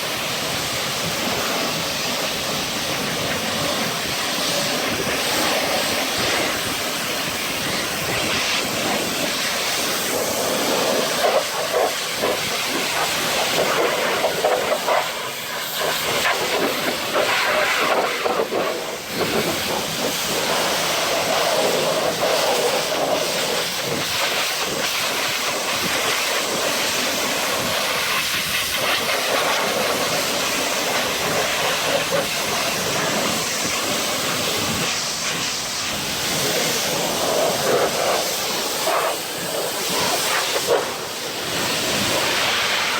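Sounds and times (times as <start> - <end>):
pressure washer spraying foam: 0.0 - 42.9.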